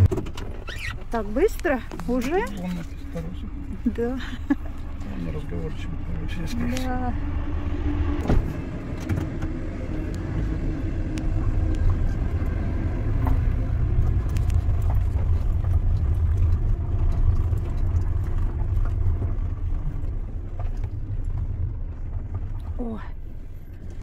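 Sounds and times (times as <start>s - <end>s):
car engine rumbling in cabin: 0.0s - 24.0s.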